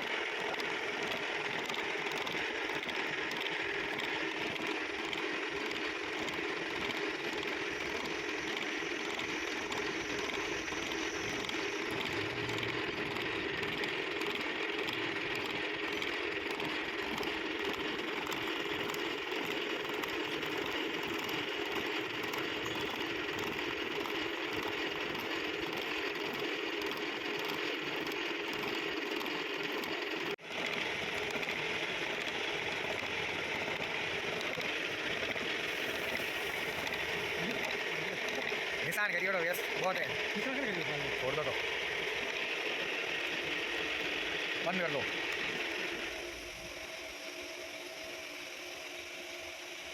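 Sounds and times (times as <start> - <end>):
machine tool whirring: 0.0 - 49.9.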